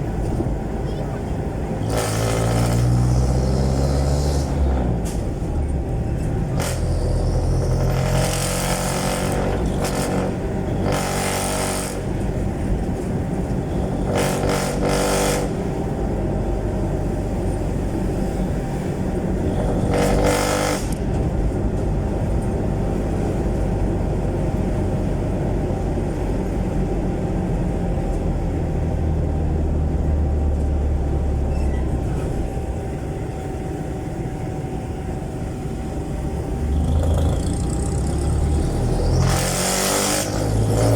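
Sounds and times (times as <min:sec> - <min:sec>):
diesel engine through open exhaust: 0:00.0 - 0:40.9.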